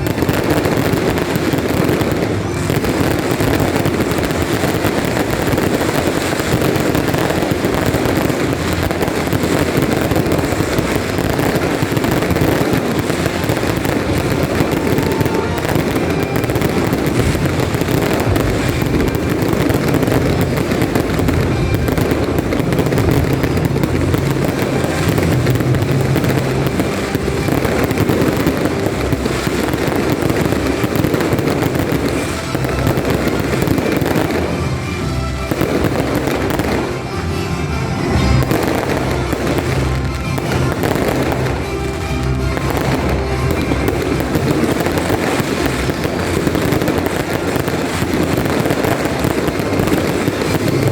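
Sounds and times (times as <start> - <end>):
fireworks crackling and popping: 0.0 - 50.9
music playing: 0.0 - 50.9.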